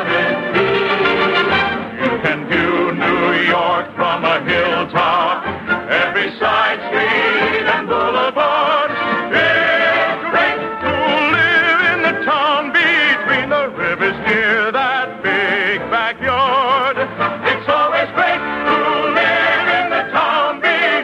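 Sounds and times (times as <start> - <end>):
orchestra playing: 0.0 - 20.0.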